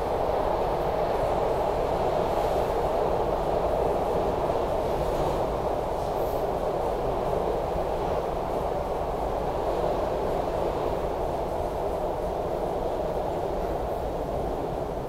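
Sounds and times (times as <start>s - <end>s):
subway car running: 0.0s - 15.0s.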